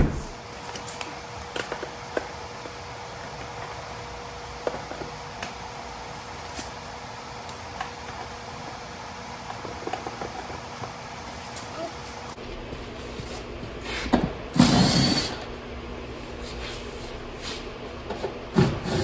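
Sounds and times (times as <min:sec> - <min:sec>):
steady hum with faint tone: 0:00.0 - 0:19.0.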